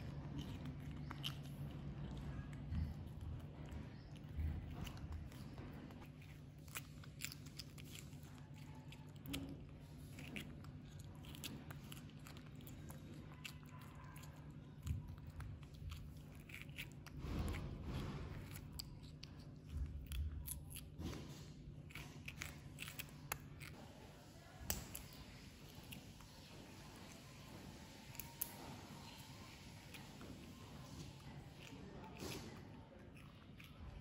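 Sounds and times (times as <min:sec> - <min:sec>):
monkey chewing crunchy vegetable: 0:00.0 - 0:34.0
steady low hum: 0:00.0 - 0:34.0.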